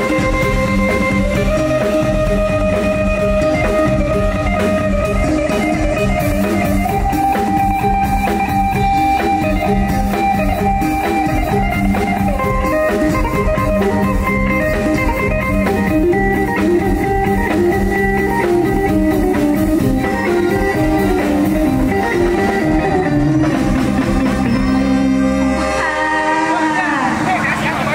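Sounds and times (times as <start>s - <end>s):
plucked guitar melody: 0.0s - 26.5s
bass: 0.0s - 27.9s
drum kit: 0.0s - 27.9s.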